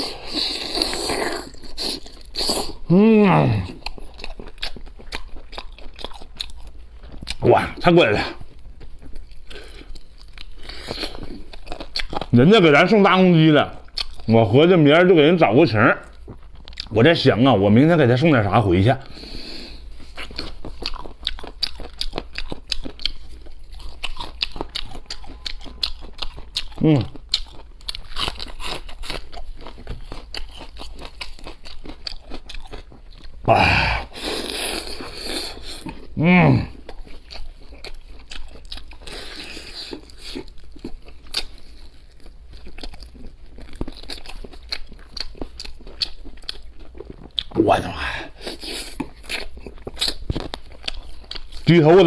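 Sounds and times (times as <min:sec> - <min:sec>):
crunching and chewing food: 0:00.0 - 0:52.0.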